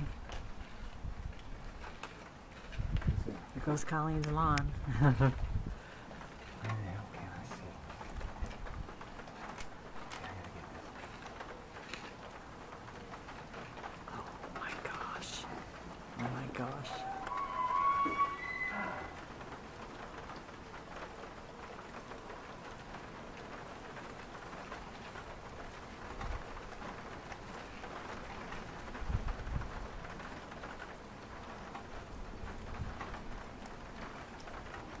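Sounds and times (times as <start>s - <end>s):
light rain pattering: 0.0s - 35.0s.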